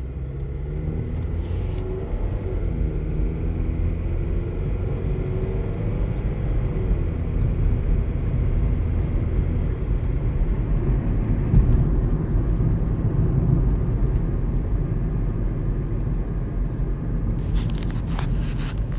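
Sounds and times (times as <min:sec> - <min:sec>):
car whine under acceleration: 0:00.0 - 0:18.9
engine and road rumble: 0:00.0 - 0:18.9.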